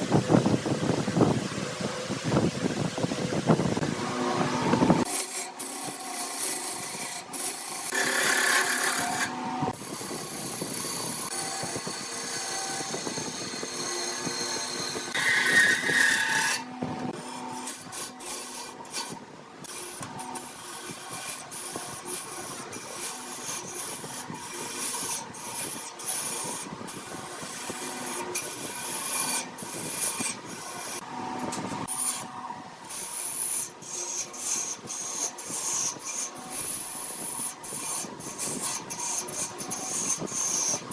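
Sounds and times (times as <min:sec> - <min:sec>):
wood lathe spinning: 0:03.7 - 0:40.9
turning tool rasping on wood: 0:04.7 - 0:32.3, 0:32.9 - 0:40.9.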